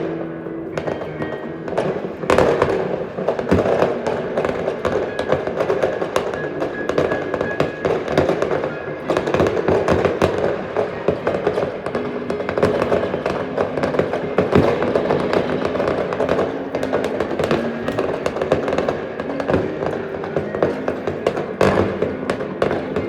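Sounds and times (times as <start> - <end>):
fireworks cracking and popping: 0.0 - 23.0.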